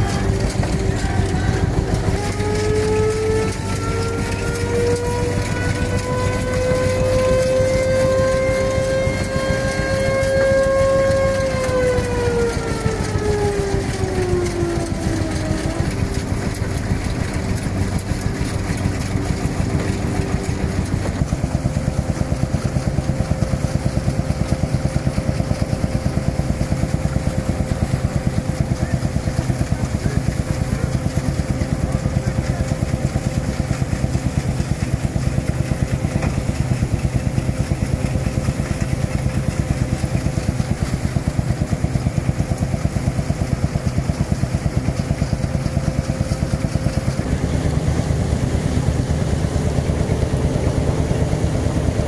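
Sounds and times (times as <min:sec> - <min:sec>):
machinery fast regular clatter: 0:00.0 - 0:52.0
threshing machine humming whine: 0:00.0 - 0:52.0.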